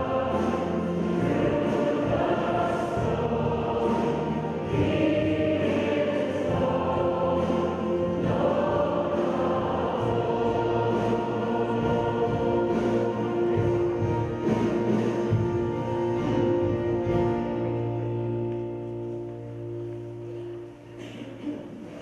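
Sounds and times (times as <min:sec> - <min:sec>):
choir and congregation singing hymn: 0:00.0 - 0:18.1.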